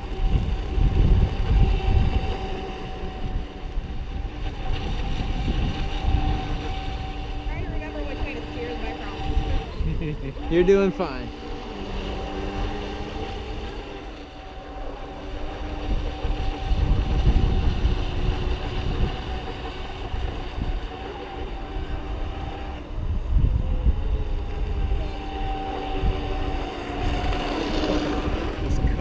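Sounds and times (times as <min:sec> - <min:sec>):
electric boat motor whining: 0:00.0 - 0:29.0
wind on microphone: 0:00.0 - 0:29.0.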